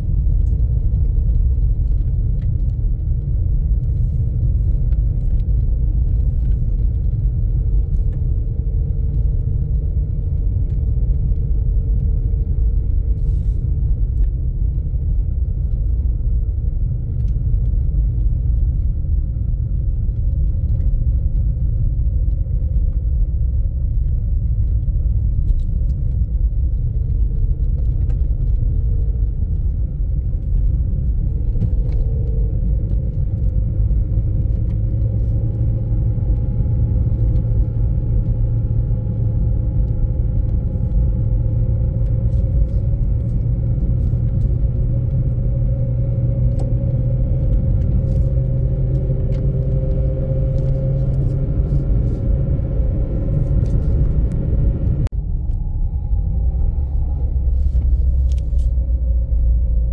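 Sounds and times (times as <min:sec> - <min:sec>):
car driving on dirt road: 0:00.0 - 0:59.9.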